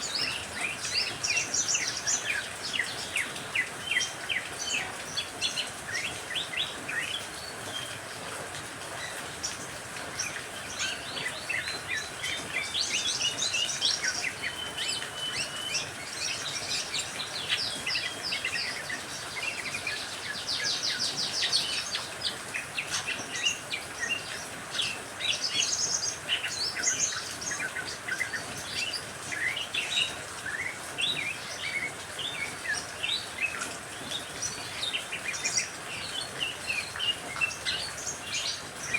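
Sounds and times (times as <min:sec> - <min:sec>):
rain hiss: 0:00.0 - 0:38.9
songbirds chirping and trilling: 0:00.0 - 0:38.9.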